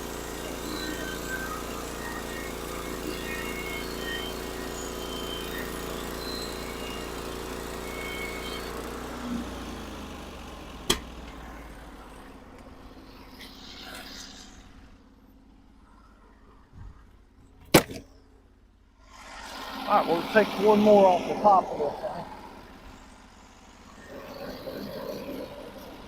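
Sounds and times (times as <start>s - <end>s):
sawmill gas engine running: 0.0s - 15.0s, 19.0s - 26.0s.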